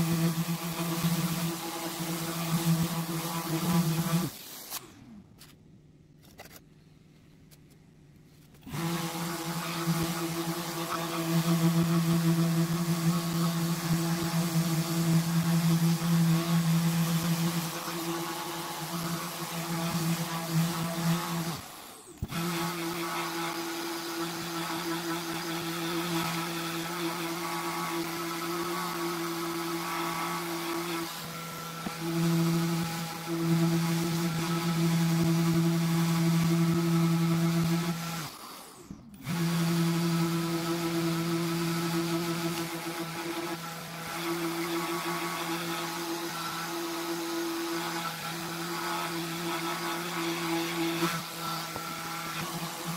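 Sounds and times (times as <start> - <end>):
orbital sander whining: 0.0 - 5.1, 8.6 - 52.9.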